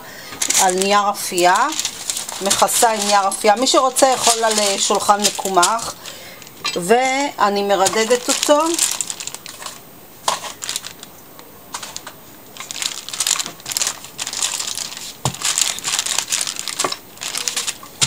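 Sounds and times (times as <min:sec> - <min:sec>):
baking paper crinkling: 0:00.4 - 0:11.1, 0:11.7 - 0:18.0.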